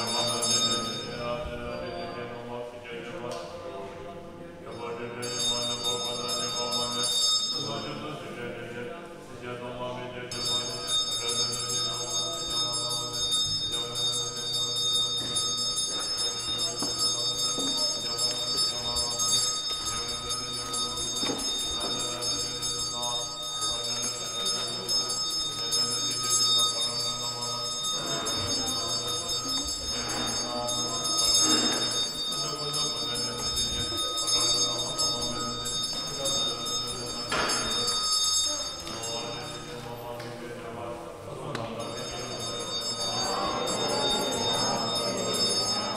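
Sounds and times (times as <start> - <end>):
low droning chant: 0.0 - 45.9
steady high ringing: 0.0 - 45.9.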